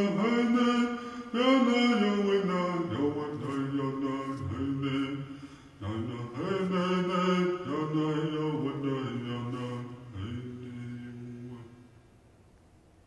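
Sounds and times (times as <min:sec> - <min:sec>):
vocal chanting in long notes: 0:00.0 - 0:12.1.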